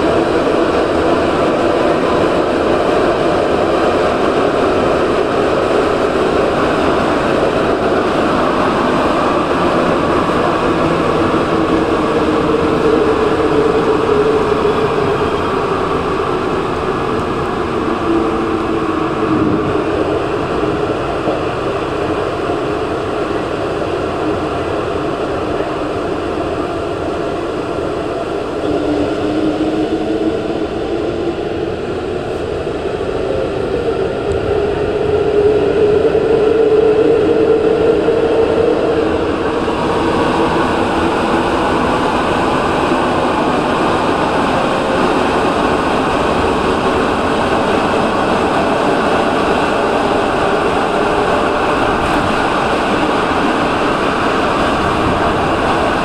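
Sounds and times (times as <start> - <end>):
train running through tunnel: 0.0 - 56.0
whining tones: 0.0 - 56.0.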